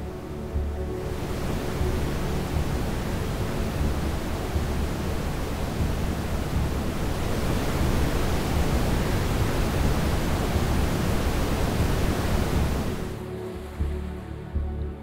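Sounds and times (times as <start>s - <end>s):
waterfall roaring: 1.0s - 13.2s.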